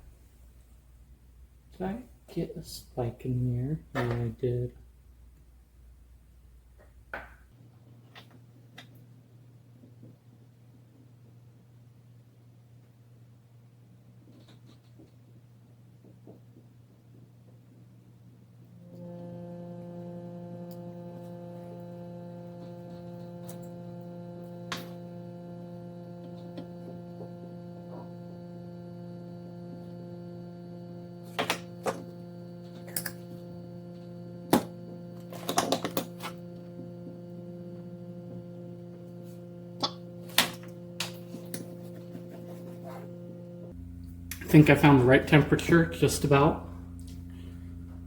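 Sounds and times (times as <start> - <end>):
steady electrical hum: 0.0 - 48.0.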